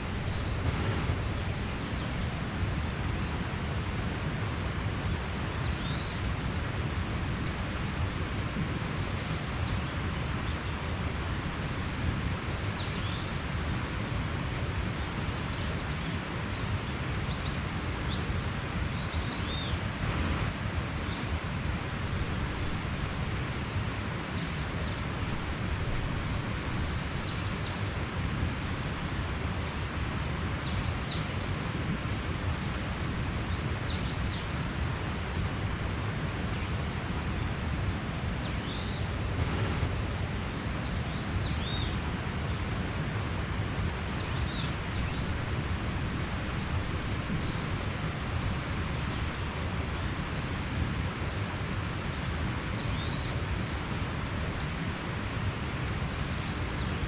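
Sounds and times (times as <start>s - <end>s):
mountain stream running: 0.0s - 57.0s.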